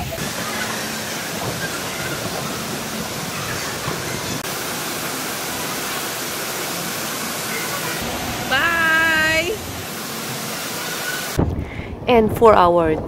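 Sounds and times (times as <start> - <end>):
water rushing and falling: 0.0 - 11.4.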